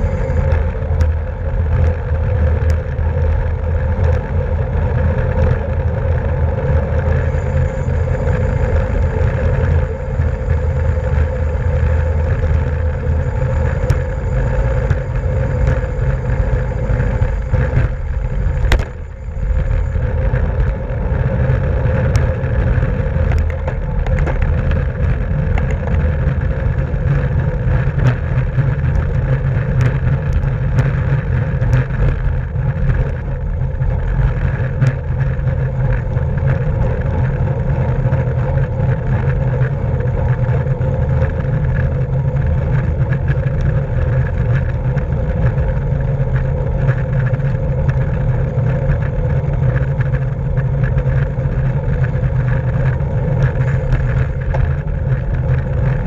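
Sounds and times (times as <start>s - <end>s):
steady hum: 0.0s - 56.0s
wind rush on microphone: 0.0s - 56.0s.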